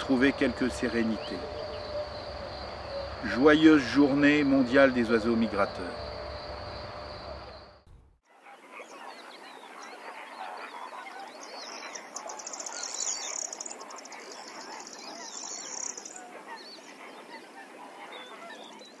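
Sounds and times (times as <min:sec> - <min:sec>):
flock of birds calling: 0:00.0 - 0:06.0, 0:08.4 - 0:19.0.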